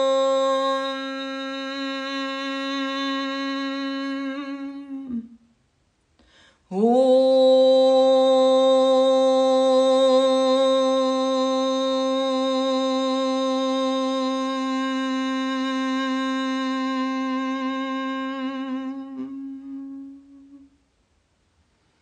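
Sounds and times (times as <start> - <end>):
woman chanting om: 0.0 - 5.5, 6.6 - 20.8.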